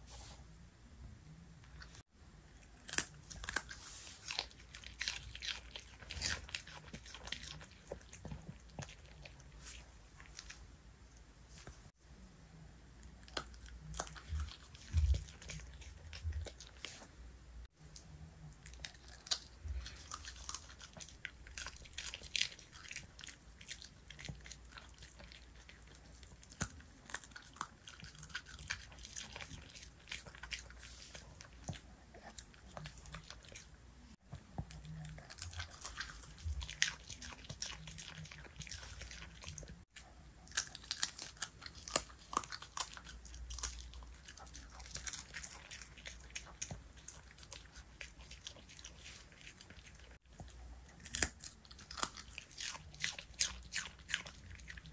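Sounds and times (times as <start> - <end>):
dog crunching cabbage: 2.6 - 10.6, 13.2 - 17.1, 18.4 - 33.8, 34.5 - 54.9.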